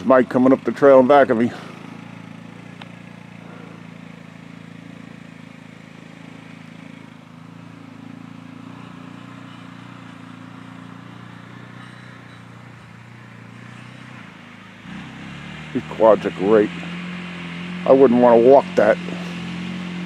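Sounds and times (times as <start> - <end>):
quad engine running steadily: 0.0 - 20.0.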